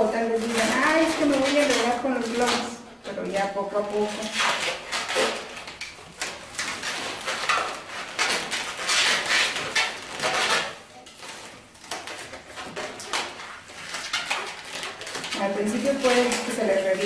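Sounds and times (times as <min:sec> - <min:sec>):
balloons squeaking and rubbing: 0:00.0 - 0:17.0.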